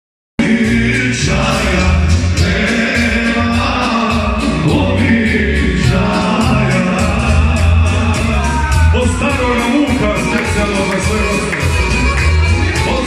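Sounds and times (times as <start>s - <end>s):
man singing into a microphone: 0.4s - 11.6s
loud amplified music with bass: 0.4s - 13.0s.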